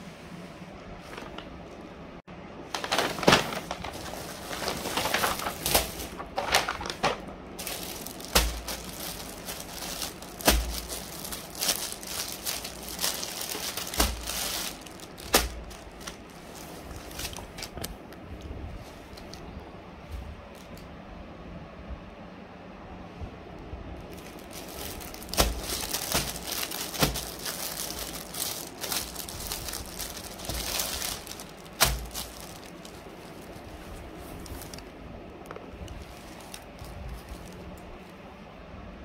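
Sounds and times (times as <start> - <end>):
paper and plastic rustling: 1.0 - 1.8, 2.6 - 19.5, 24.1 - 38.1.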